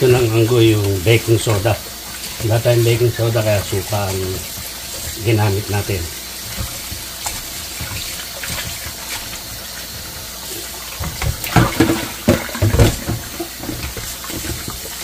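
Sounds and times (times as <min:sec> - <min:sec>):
tap water running into sink: 0:00.0 - 0:15.0
water splashing and sloshing: 0:00.0 - 0:15.0.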